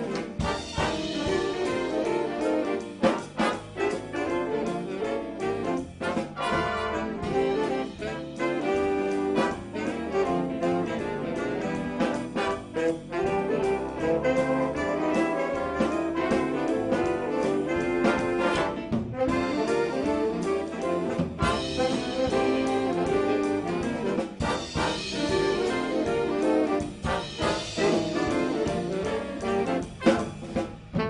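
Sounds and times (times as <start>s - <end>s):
brass band playing jazz: 0.0s - 31.0s.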